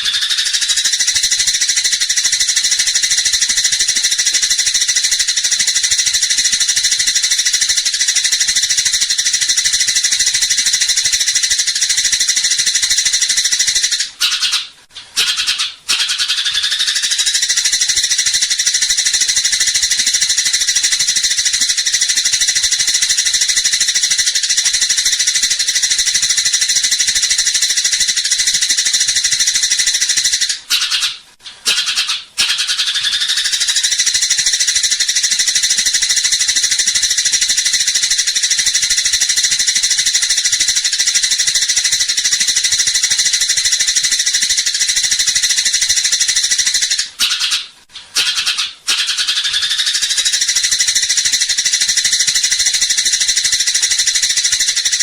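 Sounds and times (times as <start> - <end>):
sparrow chirping rapidly: 0.0 - 55.0.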